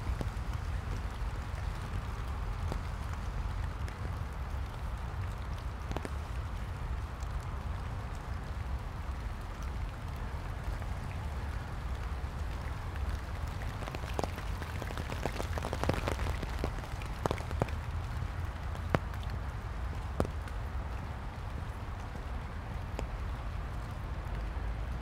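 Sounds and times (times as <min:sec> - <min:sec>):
light rain on leaves: 0:00.0 - 0:25.0.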